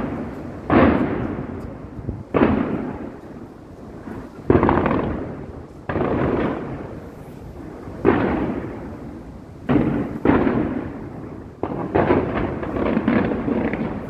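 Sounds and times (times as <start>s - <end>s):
fireworks bangs and crackle: 0.0s - 14.0s
fireworks booming: 0.0s - 14.0s.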